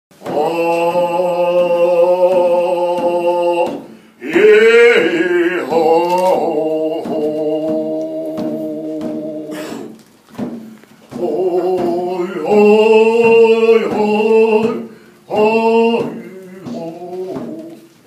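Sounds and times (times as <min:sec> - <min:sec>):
man singing long held notes: 0:00.1 - 0:10.0, 0:11.1 - 0:18.0
frame drum beating: 0:00.2 - 0:18.0.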